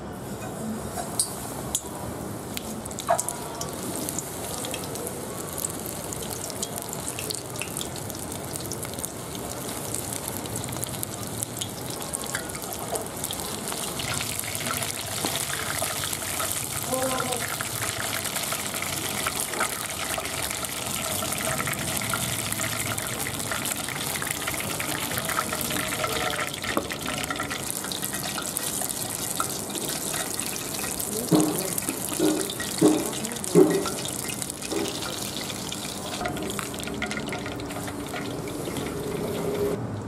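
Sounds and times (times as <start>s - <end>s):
food deep-frying in oil: 1.0s - 40.0s.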